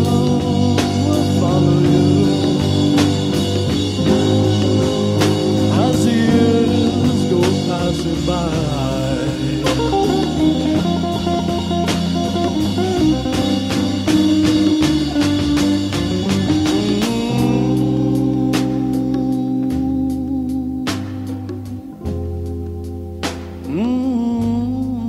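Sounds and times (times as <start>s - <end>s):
song with drums guitar and vocals: 0.0s - 25.0s.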